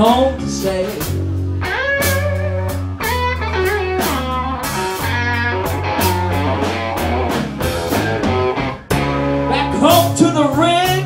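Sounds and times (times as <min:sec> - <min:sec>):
bass line: 0:00.0 - 0:11.0
drums: 0:00.0 - 0:11.0
electric guitar blues lead: 0:00.0 - 0:11.0.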